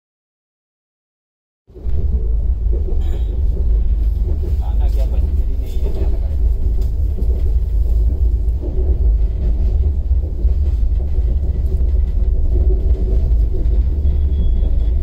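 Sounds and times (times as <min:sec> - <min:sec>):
train rumbling from inside coach: 0:01.7 - 0:15.0.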